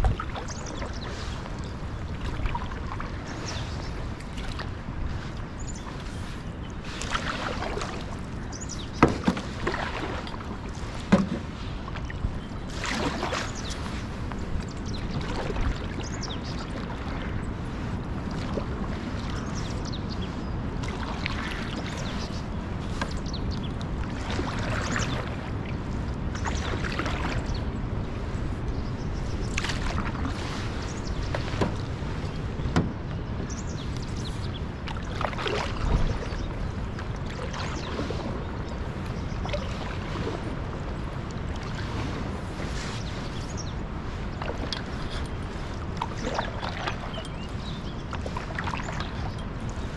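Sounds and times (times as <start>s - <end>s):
paddle strokes splashing: 0.0s - 49.9s
wind: 0.0s - 49.9s.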